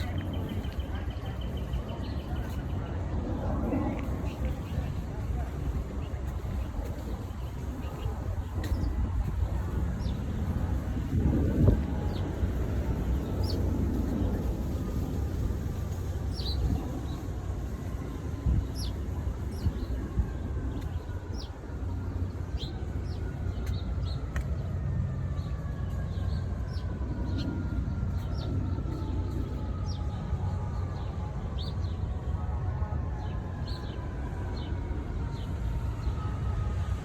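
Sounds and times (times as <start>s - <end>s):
distant traffic: 0.0s - 37.0s
wind rumble: 0.0s - 37.0s.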